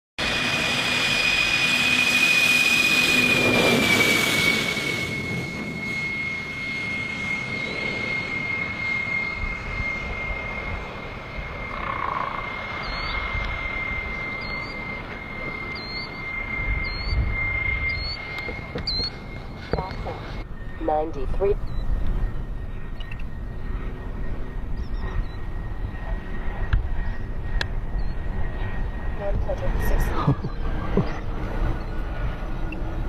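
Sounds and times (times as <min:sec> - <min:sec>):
model jet engines whining: 0:00.2 - 0:33.0.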